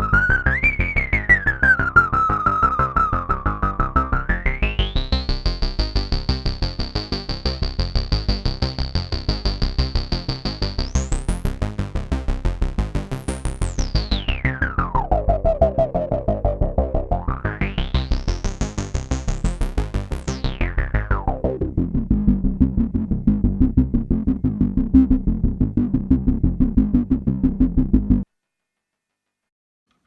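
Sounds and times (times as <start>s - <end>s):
synthesizer resonant filter sweep sequence: 0.0s - 28.2s.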